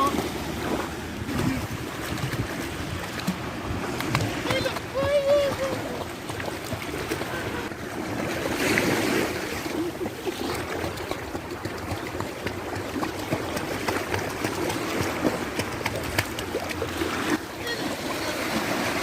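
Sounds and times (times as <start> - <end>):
water splashing and lapping: 0.0 - 19.0.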